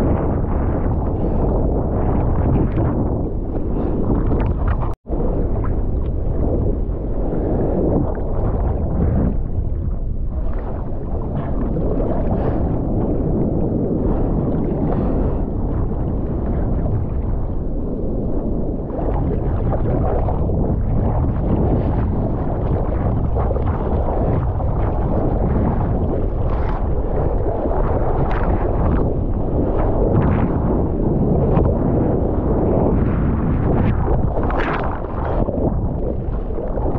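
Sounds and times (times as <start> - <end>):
surf rushing and splashing: 0.0 - 36.9
wind buffeting microphone: 0.0 - 36.9.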